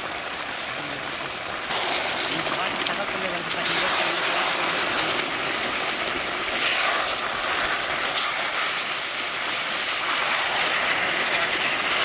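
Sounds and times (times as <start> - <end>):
fish sizzling in hot oil: 0.0 - 12.0
spatula stirring in wok: 1.6 - 12.0.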